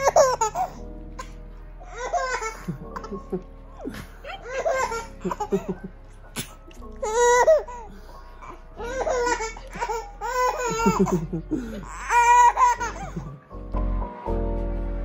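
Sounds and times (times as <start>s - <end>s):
baby laughing: 0.0s - 13.6s
background music: 0.0s - 15.0s.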